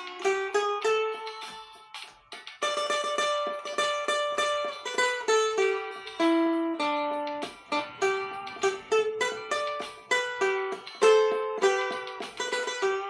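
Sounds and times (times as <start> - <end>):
cavaquinho hymn melody: 0.0 - 13.0.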